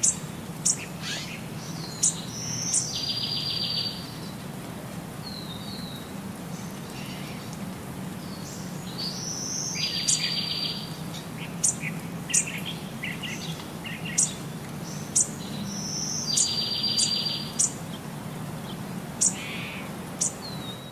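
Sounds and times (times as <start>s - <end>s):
birds chirping: 0.0s - 4.4s, 5.2s - 20.9s.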